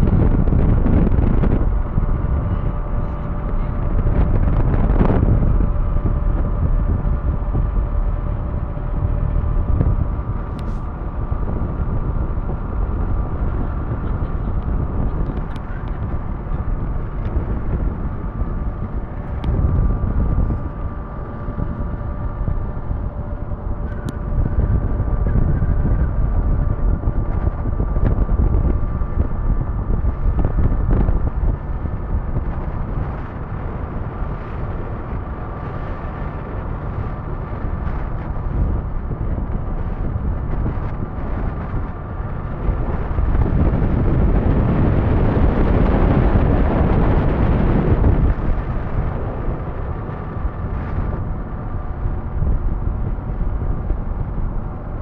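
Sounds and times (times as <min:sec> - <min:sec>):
ferry engine hum: 0:00.0 - 0:55.0
wind buffeting microphone: 0:00.0 - 0:55.0.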